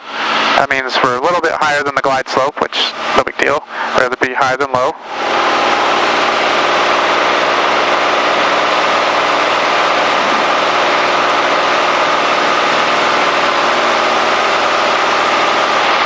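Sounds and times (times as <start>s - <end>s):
propeller plane engine: 0.0s - 16.0s.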